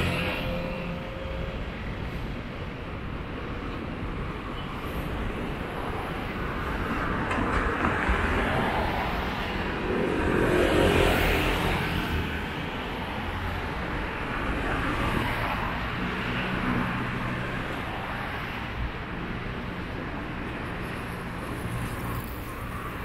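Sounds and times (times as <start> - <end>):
distant traffic hum: 0.0 - 23.0.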